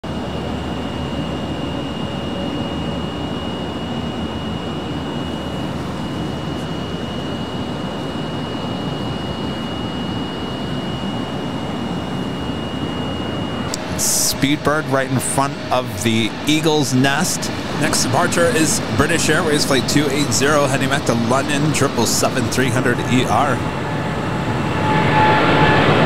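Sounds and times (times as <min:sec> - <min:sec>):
jet engines idling rumble: 0:00.1 - 0:26.0
thin high jet whine: 0:00.1 - 0:26.0.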